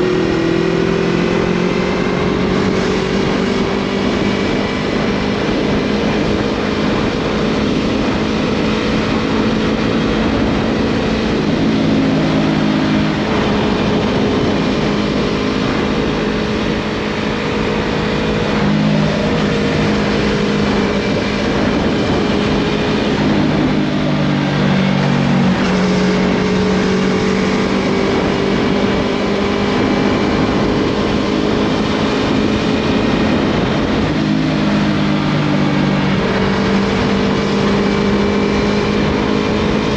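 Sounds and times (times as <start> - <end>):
motorcycle engine under way: 0.0 - 39.9
wind noise: 0.0 - 39.9.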